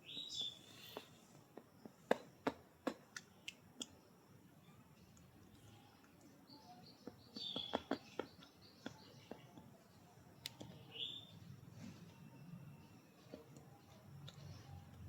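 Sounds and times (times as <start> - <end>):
pet bird chirping: 0.0 - 2.1, 3.2 - 15.0.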